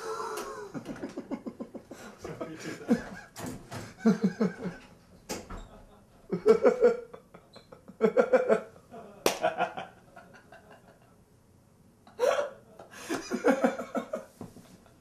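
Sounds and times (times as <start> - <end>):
people laughing: 0.0 - 4.9, 5.6 - 11.2, 12.1 - 15.0.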